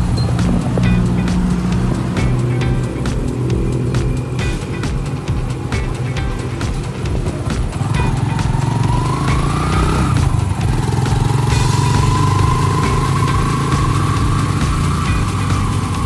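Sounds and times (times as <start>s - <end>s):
motorcycle engine with rising whine: 0.0s - 16.0s.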